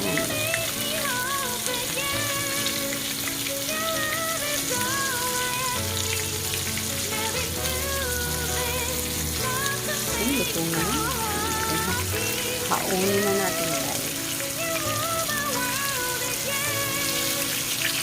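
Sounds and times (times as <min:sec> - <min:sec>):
background music: 0:00.0 - 0:18.0
fish sizzling in hot oil: 0:00.0 - 0:18.0.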